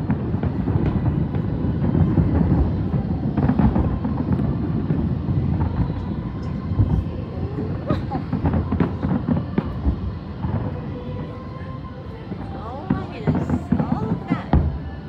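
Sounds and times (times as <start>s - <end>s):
distant fireworks booming: 0.0s - 15.0s.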